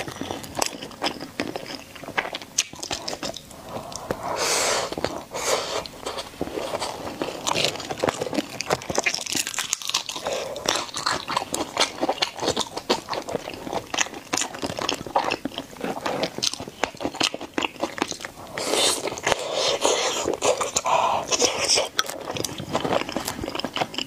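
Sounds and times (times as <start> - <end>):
person chewing with mouth clicks: 0.0 - 24.0.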